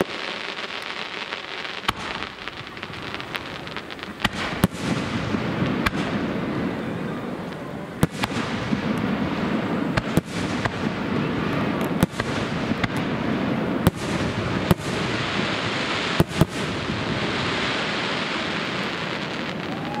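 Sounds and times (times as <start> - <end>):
firework crackle: 0.0 - 20.0.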